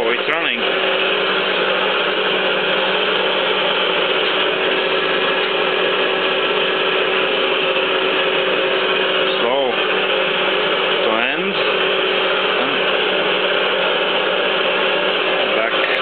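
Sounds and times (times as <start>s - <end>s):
hydraulic pump humming: 0.0s - 16.0s.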